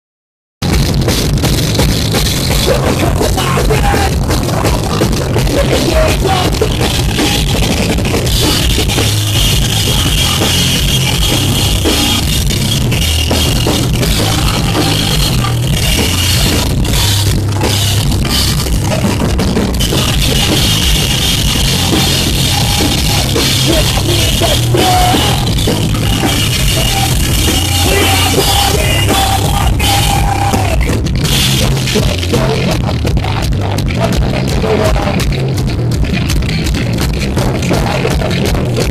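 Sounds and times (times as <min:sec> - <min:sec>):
distorted guitars and bass: 0:00.6 - 0:38.9
drum kit with cymbals: 0:00.6 - 0:38.9
vocalist singing: 0:02.5 - 0:35.6, 0:37.2 - 0:38.9.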